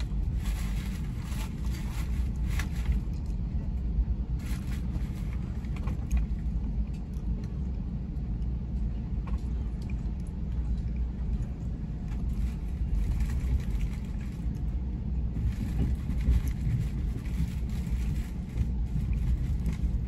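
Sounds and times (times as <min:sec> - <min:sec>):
train rumble inside passenger car: 0:00.0 - 0:20.0.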